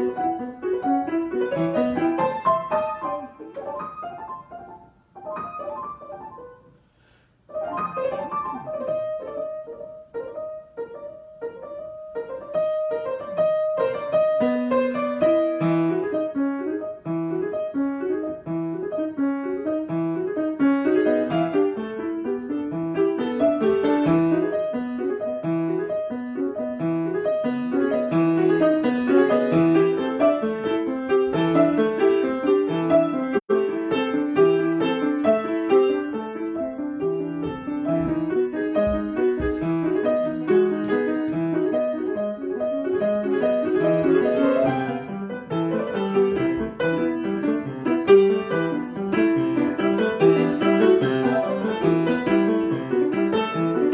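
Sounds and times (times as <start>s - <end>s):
solo piano improvising: 0.0s - 53.9s.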